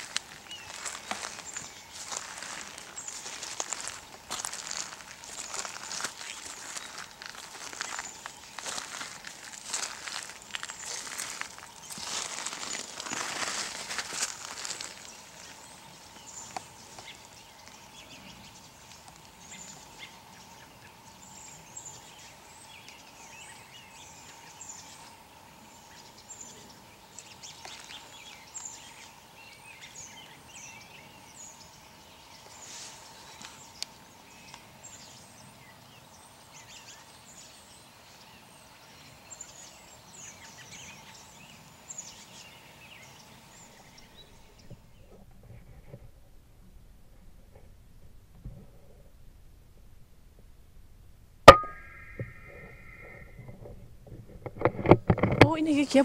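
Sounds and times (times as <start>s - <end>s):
small birds chirping: 0.0s - 45.8s.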